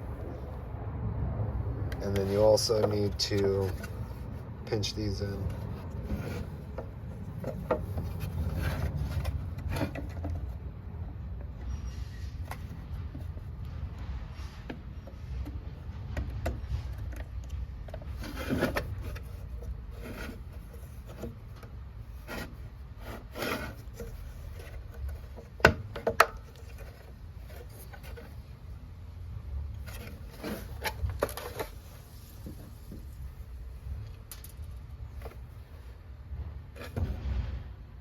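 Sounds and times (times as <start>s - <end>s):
low steady hum: 0.0s - 37.7s
plastic parts rubbing and scraping: 2.0s - 28.8s, 29.7s - 36.1s, 36.7s - 37.6s.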